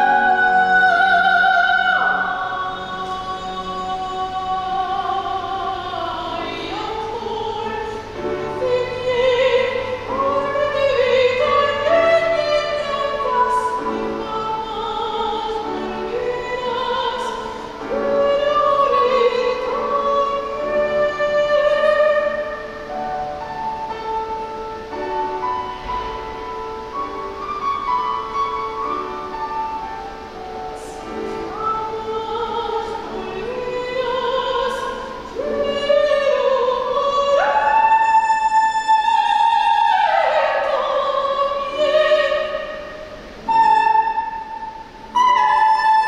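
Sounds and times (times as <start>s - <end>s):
grand piano: 0.0s - 46.0s.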